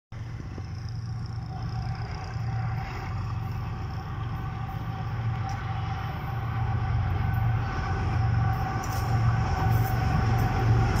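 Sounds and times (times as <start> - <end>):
diesel locomotive engine rumble: 0.1 - 11.0.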